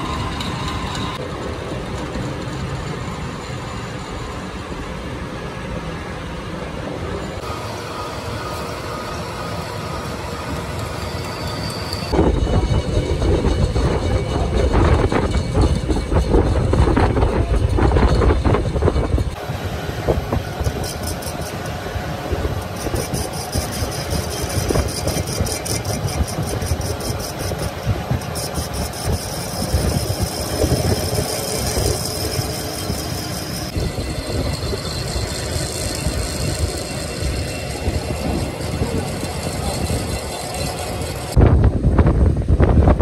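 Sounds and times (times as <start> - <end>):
metal lathe running: 0.0 - 5.6, 7.1 - 41.4.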